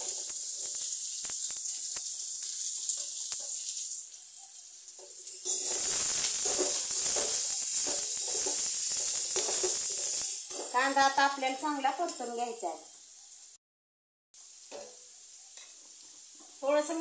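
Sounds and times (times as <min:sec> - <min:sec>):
onion sizzling in hot oil: 0:00.0 - 0:13.6, 0:14.4 - 0:17.0.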